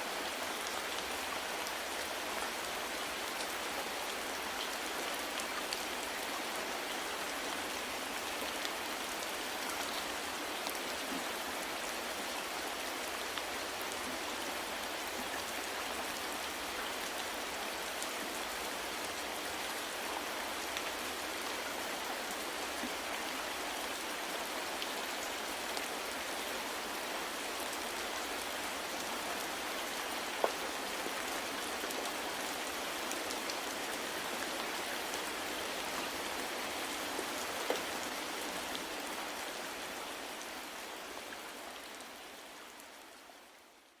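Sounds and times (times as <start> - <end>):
steady soft rain: 0.0 - 44.0.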